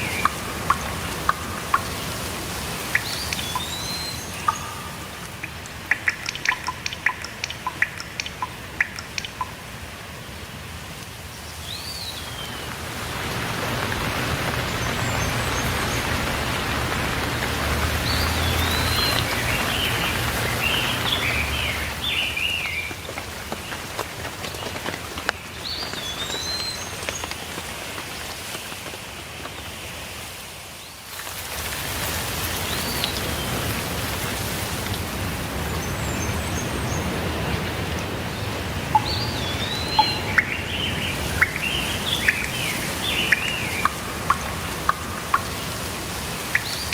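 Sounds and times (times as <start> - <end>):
songbirds chirping: 0.0 - 27.4, 34.8 - 46.9
steady rain falling: 0.0 - 46.9.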